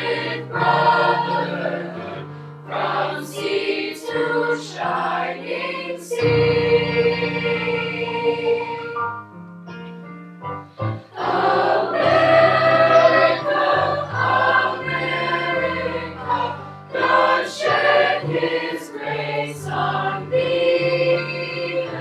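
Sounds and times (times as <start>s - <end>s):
choir singing: 0.0s - 9.3s, 11.0s - 22.0s.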